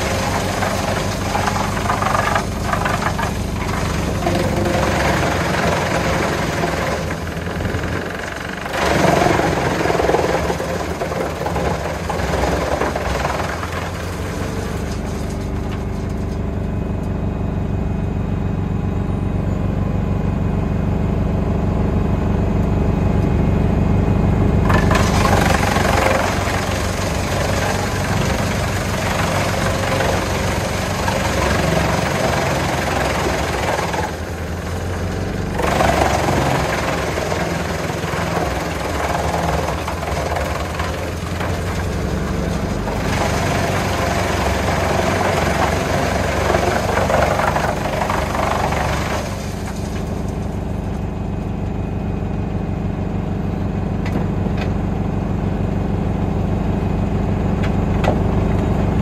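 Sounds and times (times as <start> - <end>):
wood chipper chipping wood: 0.0 - 17.9, 21.4 - 59.0
tractor engine working: 0.0 - 59.0.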